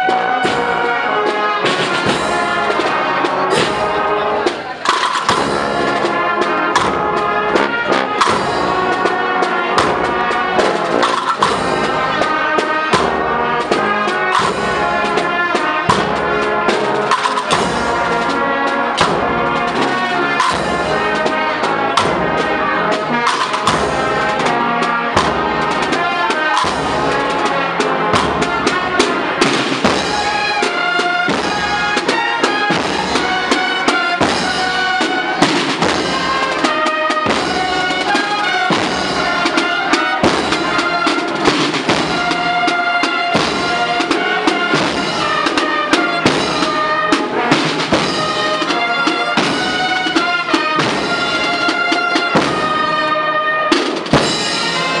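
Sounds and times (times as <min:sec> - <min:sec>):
brass melody: 0:00.0 - 0:55.0
steady drumbeats: 0:00.0 - 0:55.0.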